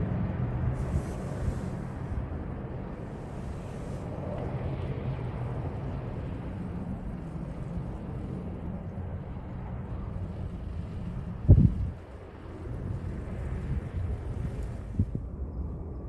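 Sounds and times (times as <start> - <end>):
wind on microphone: 0.0 - 8.9, 9.9 - 16.0
distant jet engines rumbling: 0.0 - 16.0.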